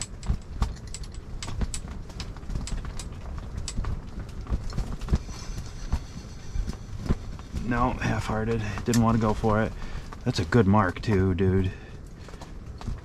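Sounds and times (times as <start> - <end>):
light clicks and taps: 0.0 - 13.0
wind buffeting shelter: 0.0 - 13.0.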